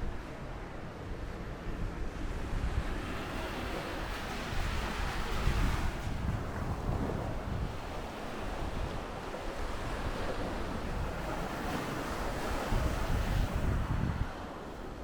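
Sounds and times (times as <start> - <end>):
surf washing on a beach: 0.0 - 15.0
wind buffeting microphone: 0.0 - 15.0.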